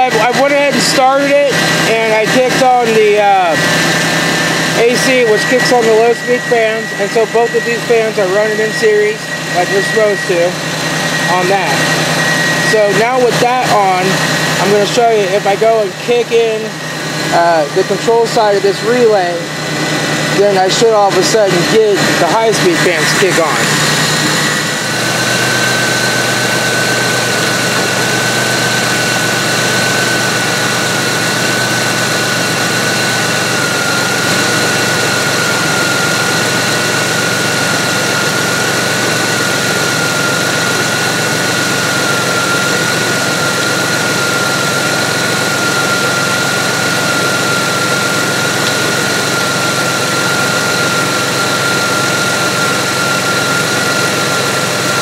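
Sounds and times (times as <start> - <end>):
car engine idling: 0.0 - 55.0
radiator cooling fans whining: 0.0 - 55.0.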